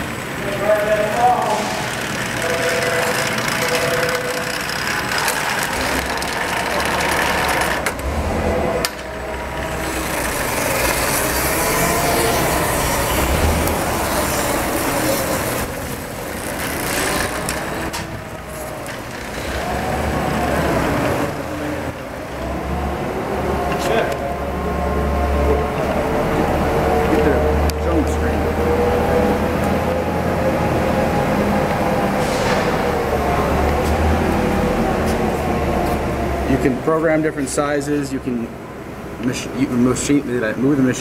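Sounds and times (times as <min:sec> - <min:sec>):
wrapping machine turntable humming: 0:00.0 - 0:36.5.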